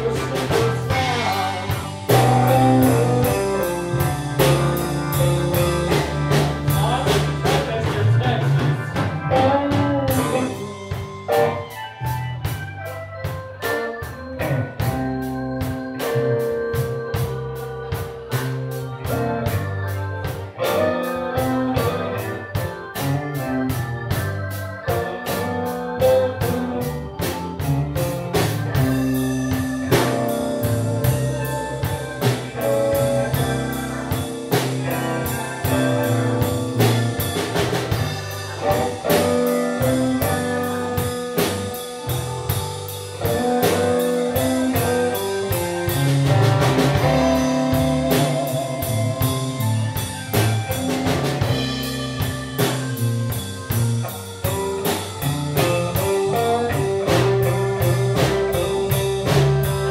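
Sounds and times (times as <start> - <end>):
bass guitar: 0.0 - 59.9
drum kit steady beat: 0.0 - 59.9
electric guitar: 0.0 - 59.9
organ: 0.0 - 59.9.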